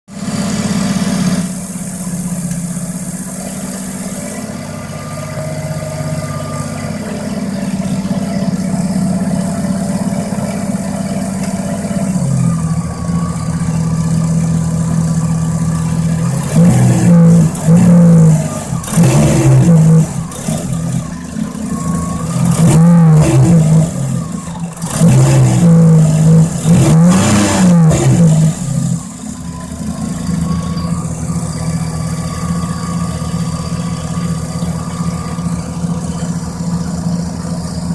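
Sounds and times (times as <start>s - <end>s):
rotary engine idling and revving: 0.1s - 37.9s.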